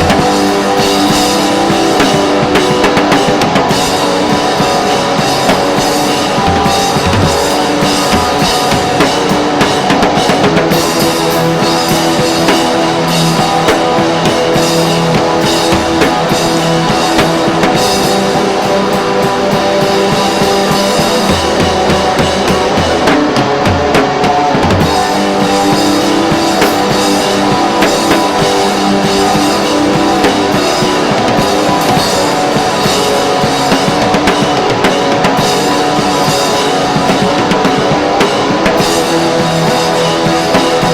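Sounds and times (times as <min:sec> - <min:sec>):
rock music: 0:00.0 - 0:40.9.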